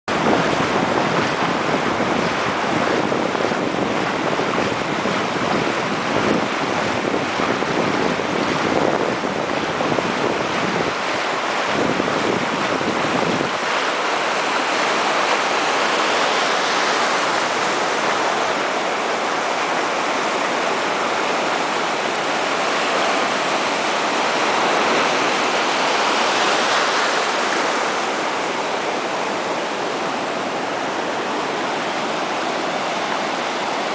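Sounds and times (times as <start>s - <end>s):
ocean surf breaking: 0.1s - 33.9s
wind rumbling on microphone: 0.1s - 33.9s.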